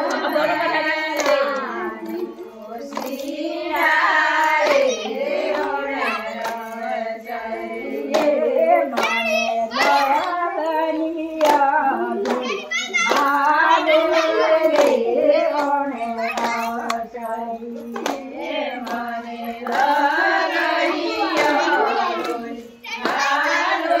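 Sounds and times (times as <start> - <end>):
hand claps: 0.0 - 24.0
women singing a folk song: 0.0 - 24.0.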